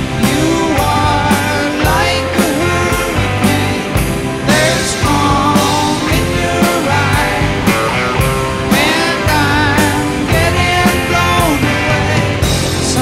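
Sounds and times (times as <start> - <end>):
person singing: 0.0 - 13.0
steady drum beat: 0.0 - 13.0.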